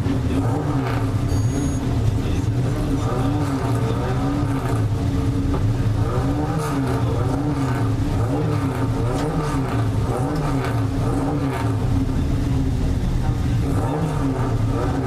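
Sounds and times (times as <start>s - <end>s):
car engine revving at idle: 0.0s - 15.0s.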